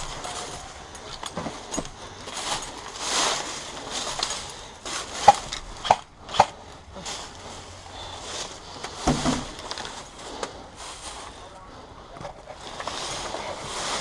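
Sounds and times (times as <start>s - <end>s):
footsteps crunching on rough ground: 0.0s - 14.0s.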